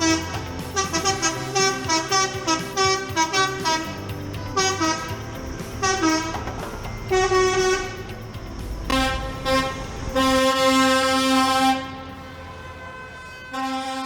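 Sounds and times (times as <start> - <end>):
coach horns honking: 0.0 - 14.0.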